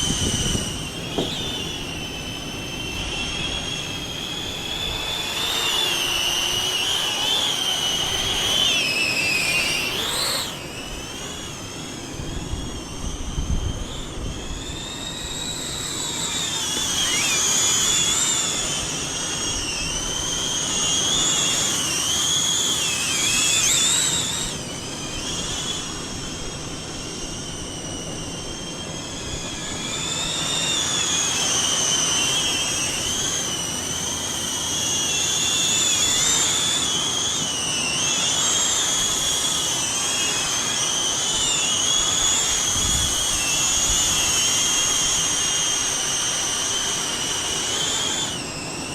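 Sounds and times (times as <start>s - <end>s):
drone propellers whining: 0.0s - 48.9s.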